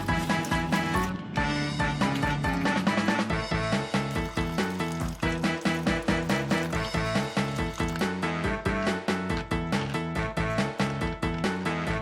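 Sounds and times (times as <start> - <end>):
upbeat background music: 0.0 - 12.0.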